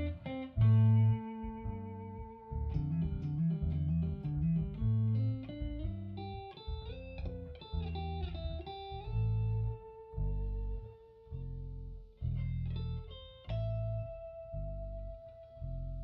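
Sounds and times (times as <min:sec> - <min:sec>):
guitar playing a shuffle: 0:00.0 - 0:16.0.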